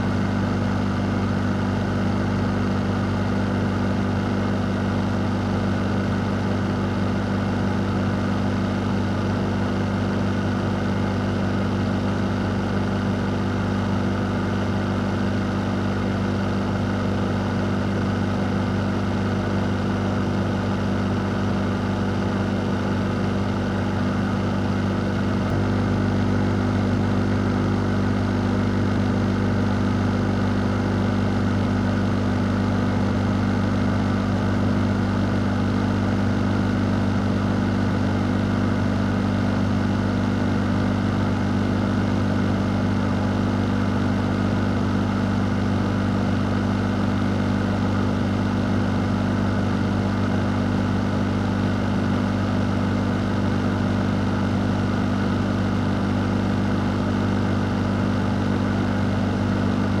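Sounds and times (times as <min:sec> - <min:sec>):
electric fan running: 0:00.0 - 1:00.0.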